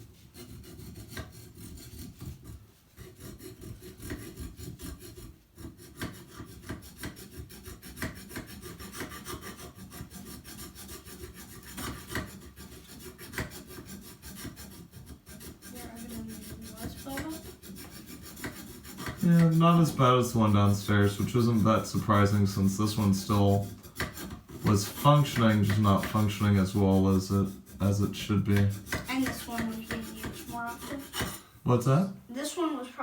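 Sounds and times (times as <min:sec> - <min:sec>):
metal file scraping metal: 0:00.0 - 0:31.6.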